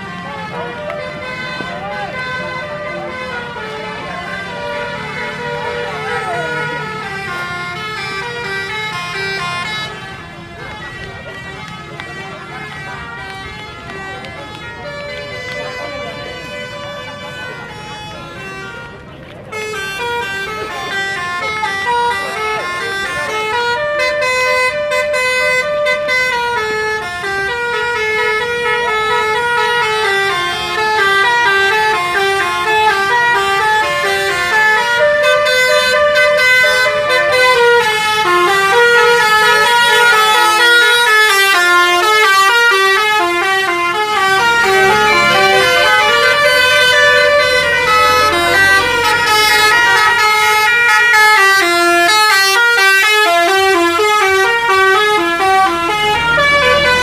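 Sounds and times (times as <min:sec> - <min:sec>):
musical bus air horns: 0:00.0 - 0:57.0.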